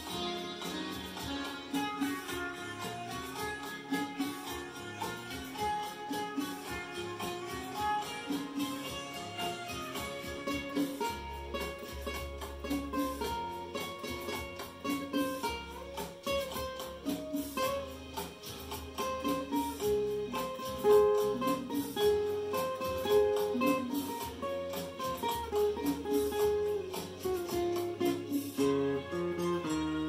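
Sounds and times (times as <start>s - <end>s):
acoustic guitar picking melody: 0.0s - 30.0s.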